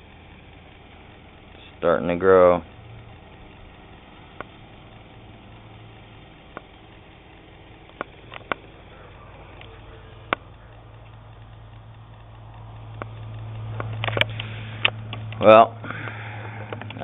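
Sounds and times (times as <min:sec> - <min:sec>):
distant engine hum: 0:00.0 - 0:17.0.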